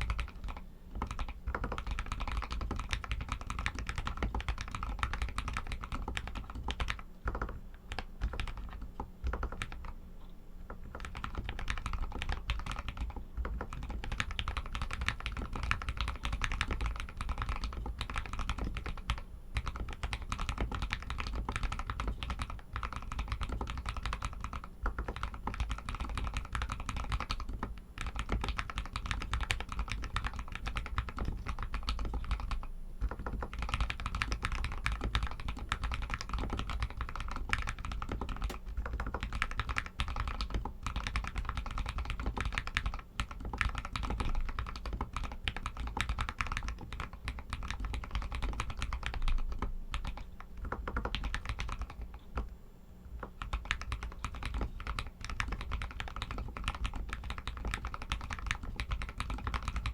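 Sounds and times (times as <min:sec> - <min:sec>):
mechanical keyboard typing: 0:00.0 - 0:10.0, 0:10.7 - 0:52.5, 0:53.2 - 0:59.9.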